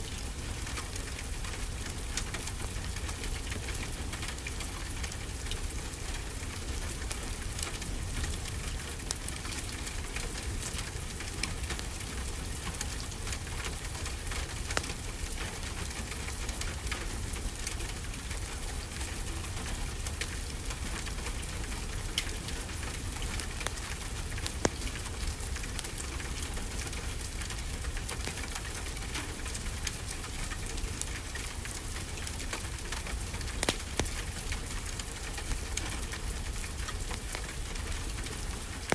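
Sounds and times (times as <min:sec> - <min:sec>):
steady rainfall: 0:00.0 - 0:38.9
wood fire crackling and popping: 0:00.1 - 0:38.9.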